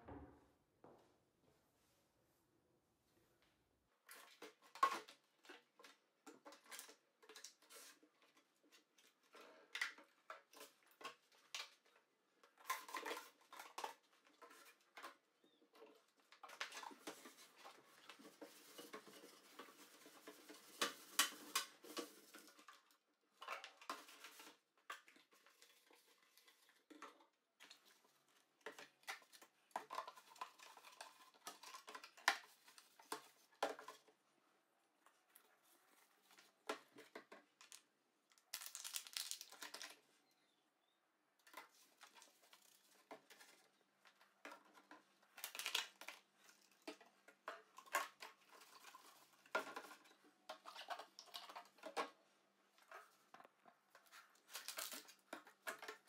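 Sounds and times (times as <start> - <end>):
items clicking and knocking: 4.0 - 40.1, 41.3 - 56.0.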